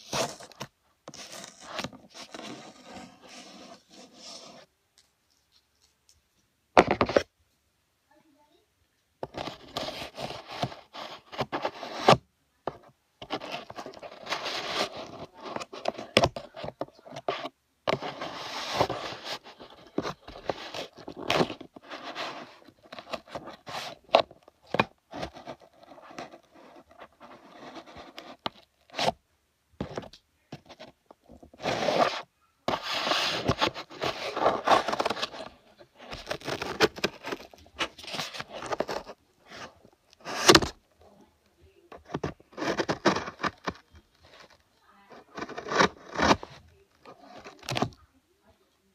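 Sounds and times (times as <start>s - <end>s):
scraping and rustling: 0.0s - 4.7s, 9.2s - 29.2s, 29.8s - 48.1s.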